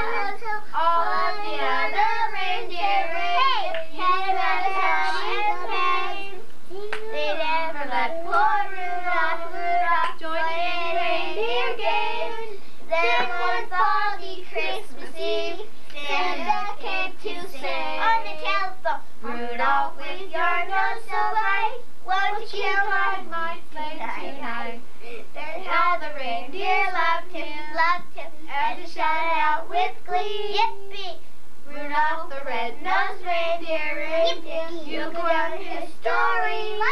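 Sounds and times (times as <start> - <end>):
children and woman singing: 0.0 - 36.9.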